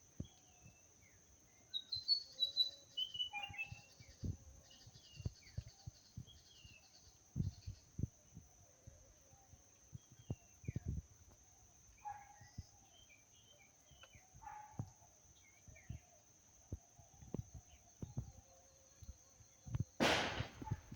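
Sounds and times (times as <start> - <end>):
faint birds chirping: 0.0 - 20.9.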